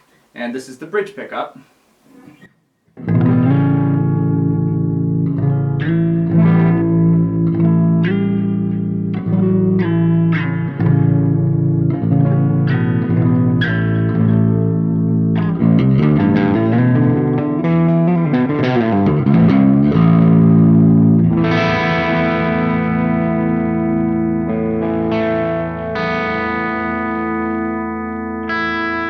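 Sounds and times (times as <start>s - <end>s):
distorted electric guitar: 2.1s - 29.0s.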